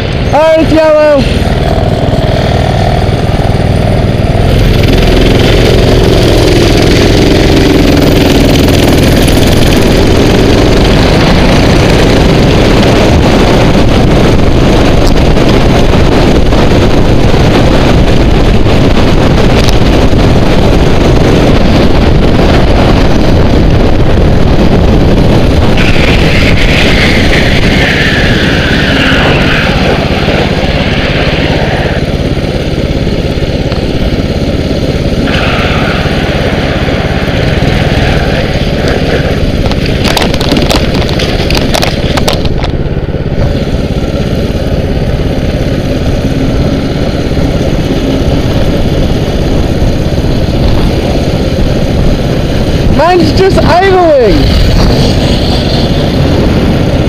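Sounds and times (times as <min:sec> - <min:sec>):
small motorbike engine running: 0:00.0 - 0:57.0
wind noise on microphone: 0:00.0 - 0:57.0.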